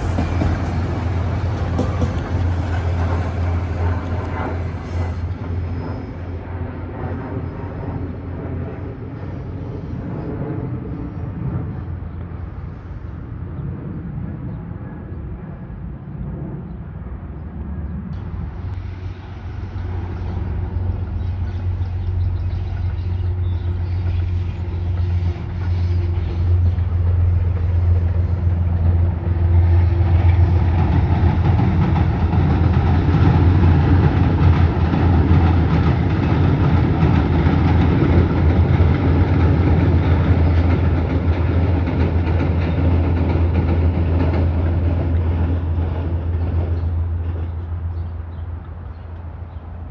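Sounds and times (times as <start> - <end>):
wheel and track noise: 0.0 - 9.6, 17.9 - 49.9
train running past: 0.0 - 49.9.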